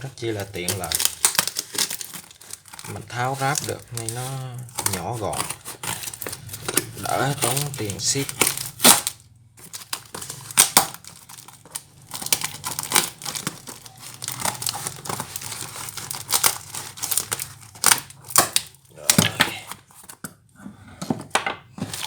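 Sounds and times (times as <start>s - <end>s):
packaging being torn and crumpled: 0.2s - 20.2s.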